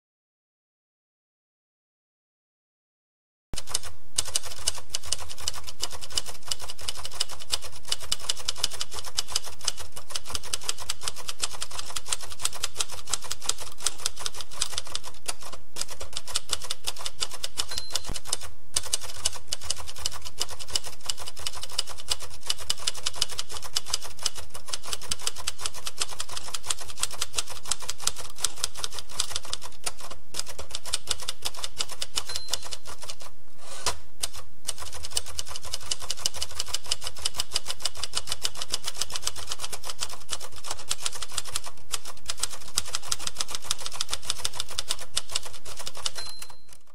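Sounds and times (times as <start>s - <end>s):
typewriter keys clacking: 3.6s - 46.9s.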